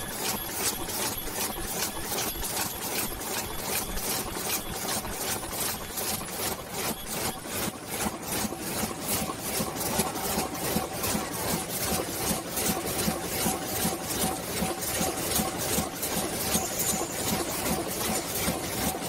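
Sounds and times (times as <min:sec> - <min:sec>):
rhythmic machine clatter: 0:00.0 - 0:19.0
steady machine hum: 0:00.0 - 0:19.0.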